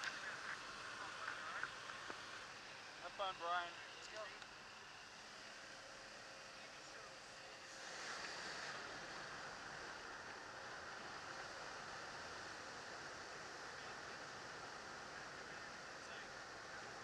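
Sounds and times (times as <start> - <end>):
aircraft noise: 0.0 - 17.0.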